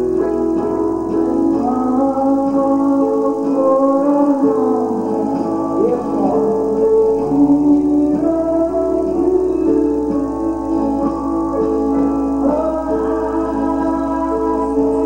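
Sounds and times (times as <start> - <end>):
instrumental accompaniment: 0.0 - 15.0
person singing long notes: 0.0 - 15.0.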